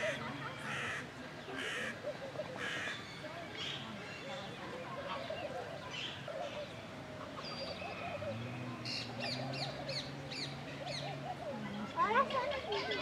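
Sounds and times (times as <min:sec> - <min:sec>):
low wavering bird calls: 0:00.0 - 0:13.0.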